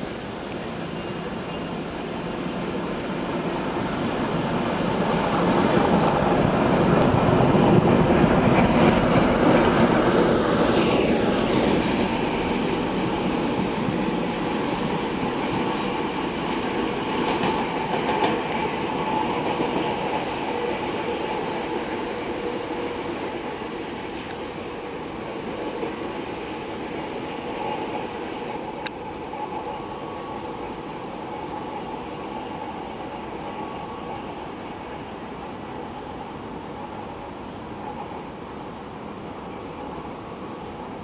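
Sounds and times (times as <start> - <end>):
diesel locomotive engine rumbling: 0.0 - 41.0.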